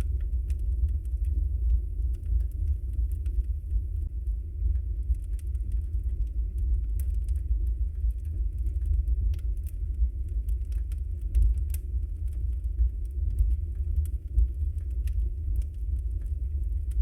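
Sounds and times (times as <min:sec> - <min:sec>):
fireplace fire crackling: 0:00.0 - 0:17.0
low rumble of flames: 0:00.0 - 0:17.0.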